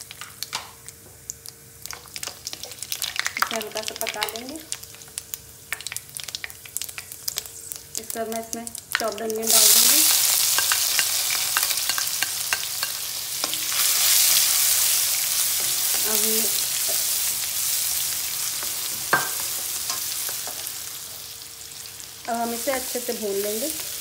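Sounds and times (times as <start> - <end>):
onion sizzling in hot oil: 0.0 - 24.0.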